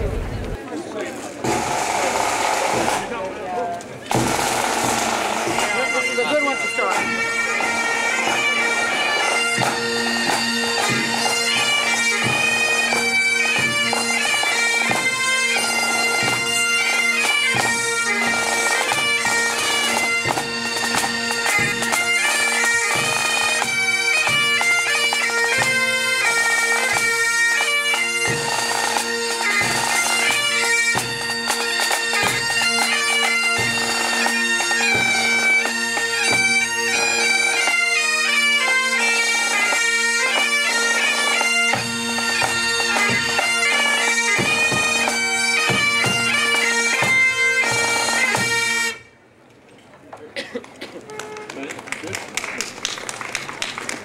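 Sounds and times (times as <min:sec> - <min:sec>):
drums beating: 0:01.4 - 0:48.6
bagpipes melody with drones: 0:04.1 - 0:49.1.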